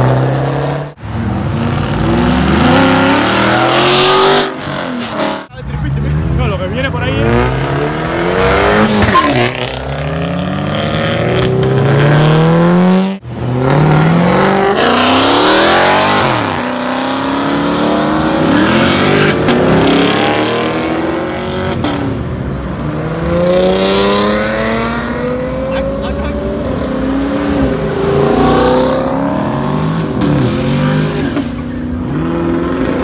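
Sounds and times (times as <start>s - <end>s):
car engines accelerating hard: 0.0s - 33.0s.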